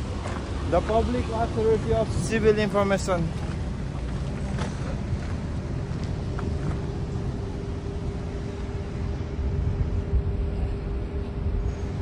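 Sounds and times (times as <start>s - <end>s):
low outdoor rumble: 0.0s - 12.0s
mid-pitched hum: 0.0s - 12.0s.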